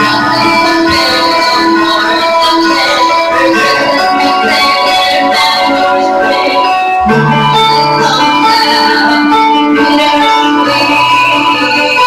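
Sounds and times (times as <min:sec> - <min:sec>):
instrumental backing track: 0:00.0 - 0:12.0
woman singing into microphone: 0:00.0 - 0:12.0.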